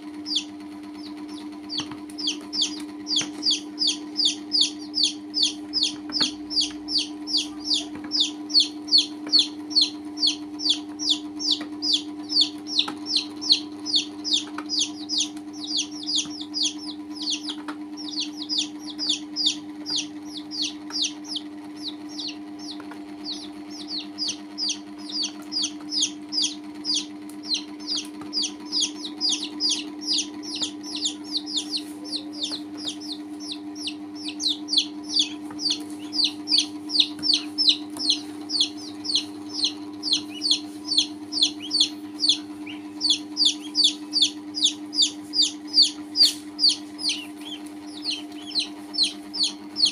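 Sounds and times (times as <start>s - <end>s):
baby chicks peeping: 0.0s - 49.9s
steady low hum: 0.0s - 49.9s.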